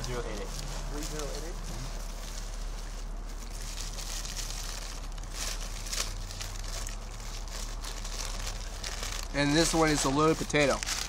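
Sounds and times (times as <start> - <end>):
paper wrapper rustling and crinkling: 0.0 - 11.0
steady low hum: 0.0 - 11.0.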